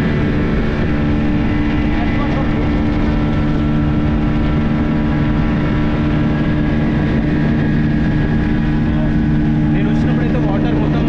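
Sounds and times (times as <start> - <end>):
speedboat engine running: 0.0 - 11.0.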